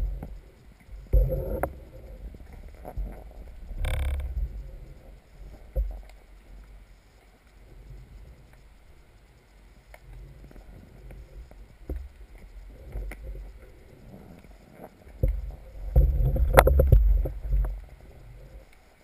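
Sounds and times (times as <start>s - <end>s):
underwater rumble of moving water: 0.0s - 19.0s.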